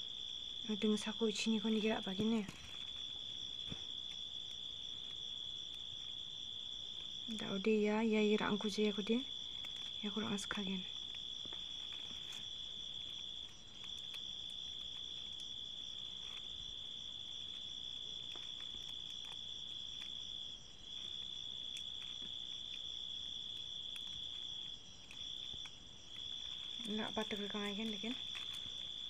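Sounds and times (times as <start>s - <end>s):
cricket trilling: 0.0s - 29.0s.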